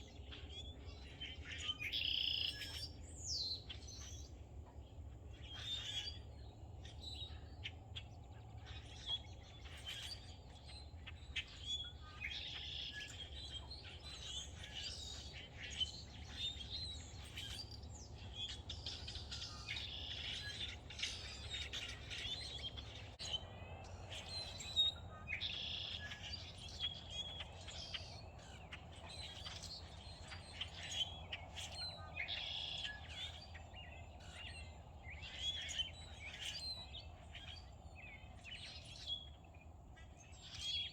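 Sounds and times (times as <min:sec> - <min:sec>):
songbirds chirping and singing: 0:00.0 - 0:40.9.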